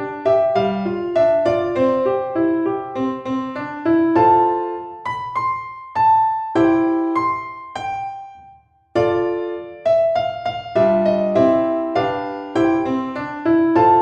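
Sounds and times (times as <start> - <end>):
piano-like keyboard chords: 0.0 - 14.0.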